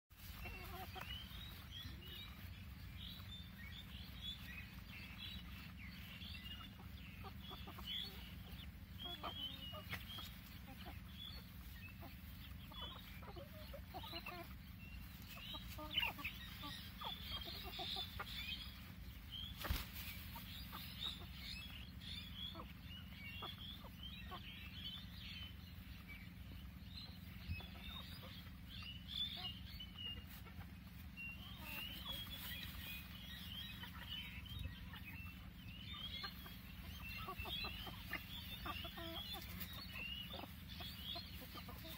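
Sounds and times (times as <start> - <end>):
chickens clucking: 0.1 - 41.9.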